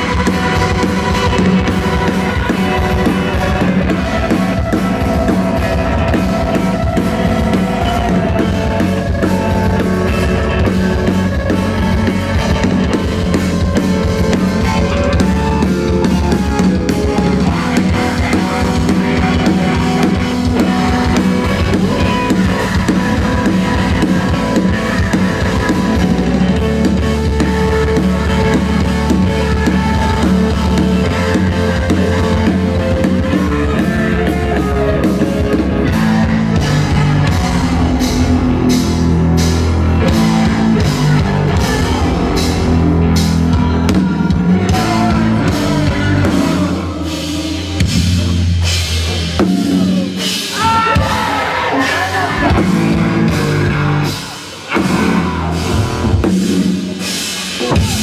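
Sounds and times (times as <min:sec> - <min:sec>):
live rock band playing loud: 0:00.0 - 0:58.0.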